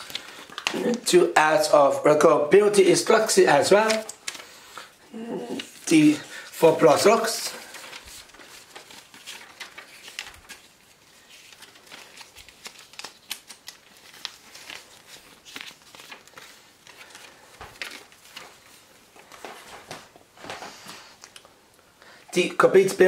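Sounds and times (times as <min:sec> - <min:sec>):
paper pages flipping: 0:00.0 - 0:01.2, 0:03.0 - 0:21.5.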